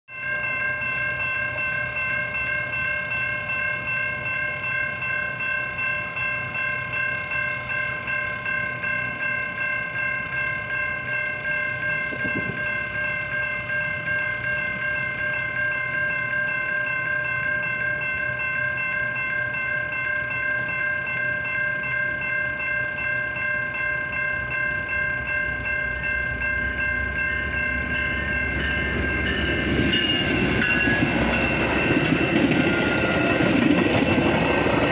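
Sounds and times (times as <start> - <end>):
crossing warning bell ringing: 0.1 - 34.9
train rumble: 0.4 - 34.9.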